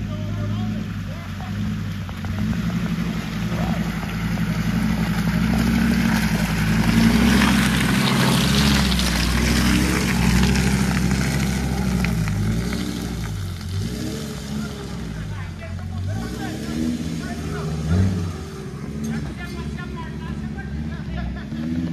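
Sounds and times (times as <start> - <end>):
pickup truck engine: 0.0 - 21.9
tyres on muddy track: 0.0 - 21.9.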